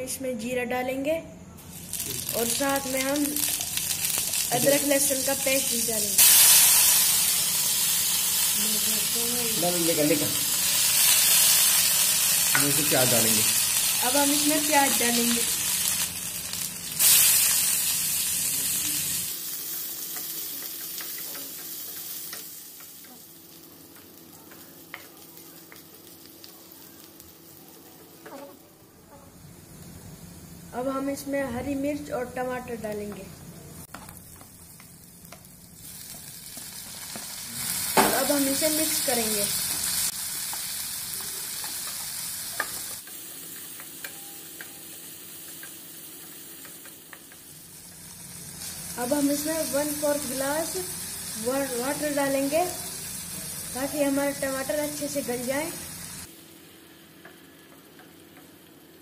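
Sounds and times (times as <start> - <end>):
onions sizzling in a pan: 1.6 - 28.7, 29.3 - 33.2, 33.8 - 59.0.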